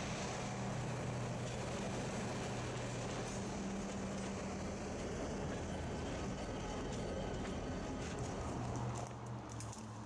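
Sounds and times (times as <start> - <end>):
diesel locomotive engine drone: 0.0 - 10.0
wheels on rails: 0.0 - 10.0.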